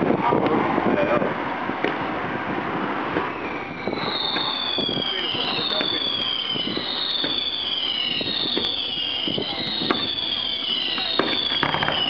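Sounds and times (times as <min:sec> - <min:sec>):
whistling fireworks: 0:00.0 - 0:12.0
sharp firework pops: 0:01.8 - 0:12.0.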